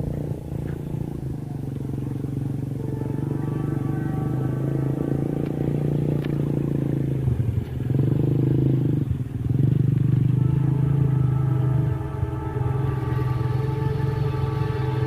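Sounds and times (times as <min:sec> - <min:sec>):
diesel locomotive throbbing drone: 0:00.0 - 0:15.0.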